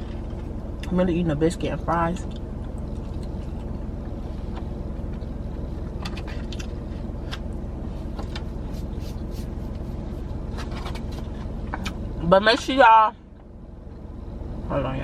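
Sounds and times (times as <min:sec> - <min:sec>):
idling car hum: 0:00.0 - 0:15.0.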